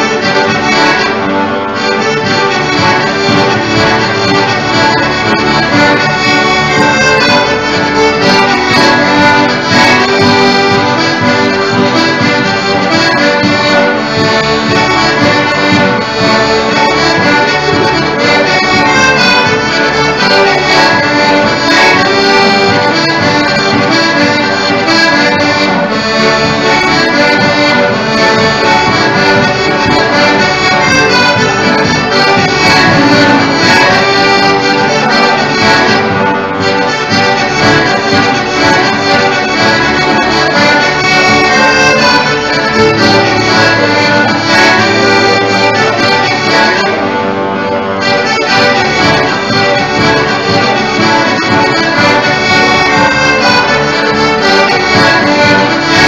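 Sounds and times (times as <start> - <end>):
melody instrument playing held notes: 0.0 - 56.0.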